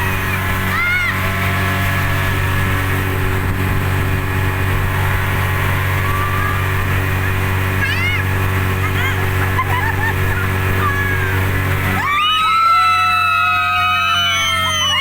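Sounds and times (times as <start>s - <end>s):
speedboat engine running: 0.0s - 15.0s
water and wind noise: 0.0s - 15.0s.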